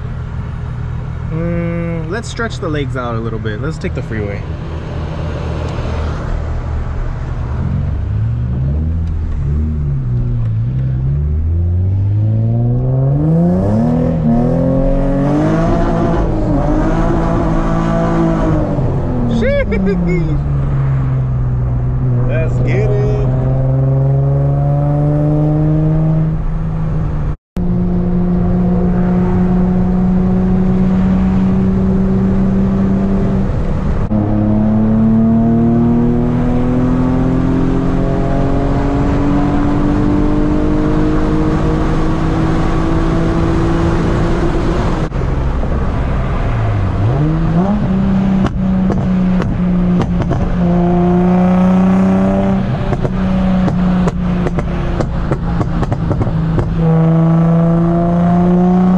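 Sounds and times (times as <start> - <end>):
car engine accelerating: 0.0 - 58.9.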